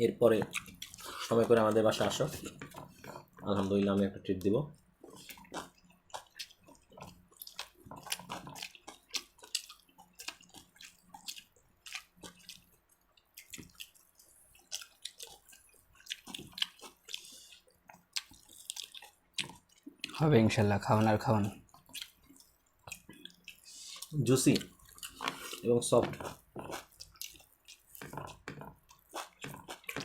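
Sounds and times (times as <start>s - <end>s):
people chewing and smacking: 0.2s - 30.0s.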